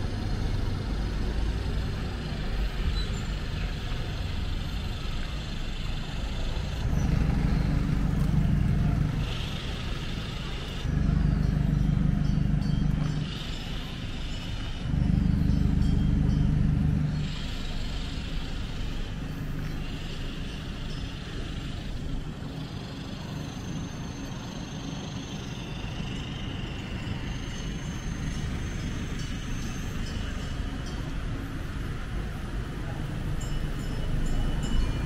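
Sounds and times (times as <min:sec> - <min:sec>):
loud low engine rumble: 0:00.0 - 0:35.0
road traffic noise: 0:00.0 - 0:35.0.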